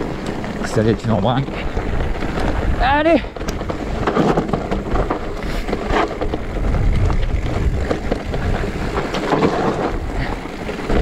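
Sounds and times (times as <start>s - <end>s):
bike knocks and rattles: 0.0s - 11.0s
wind buffeting microphone: 0.0s - 11.0s.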